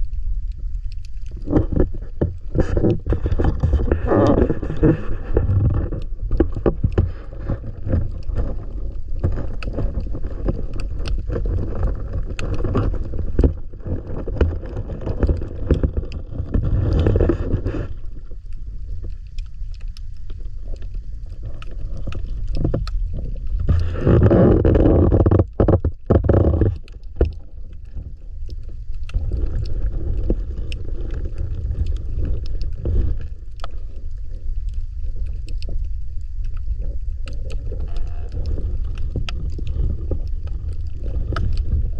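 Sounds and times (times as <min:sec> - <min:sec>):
sharp underwater clicks: 0:00.0 - 0:41.9
underwater low rumble: 0:00.0 - 0:41.9.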